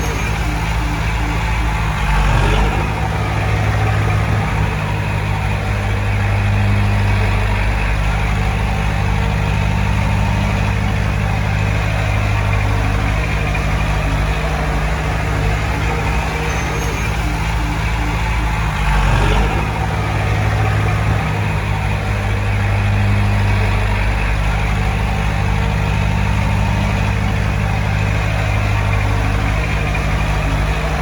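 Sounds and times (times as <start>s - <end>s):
diesel engine running low: 0.0s - 31.0s.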